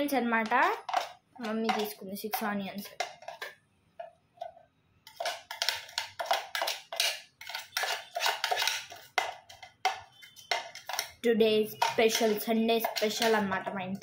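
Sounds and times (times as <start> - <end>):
kitchen bowls clattering: 0.4 - 13.7.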